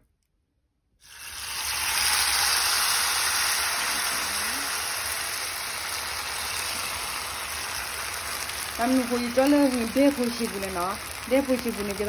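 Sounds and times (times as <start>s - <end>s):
batter sizzling in hot oil: 1.0s - 12.0s.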